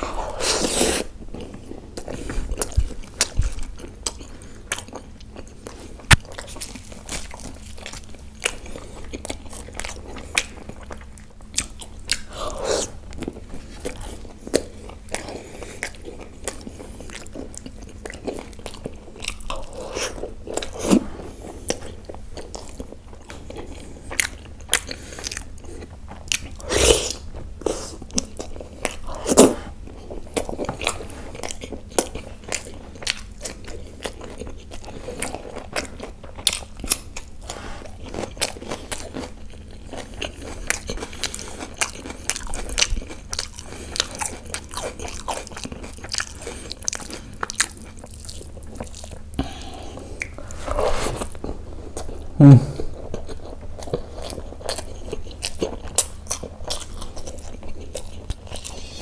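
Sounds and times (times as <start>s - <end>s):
chewing and biting: 0.0s - 59.0s.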